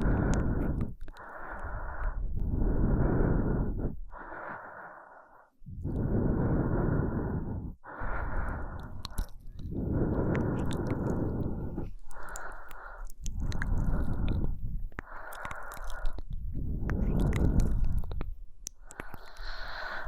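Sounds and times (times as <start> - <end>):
slow breathing: 0.0 - 20.0.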